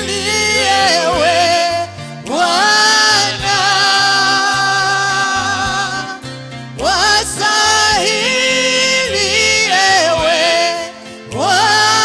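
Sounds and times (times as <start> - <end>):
instrumental backing with bass: 0.0 - 12.0
person singing gospel song: 0.0 - 12.0.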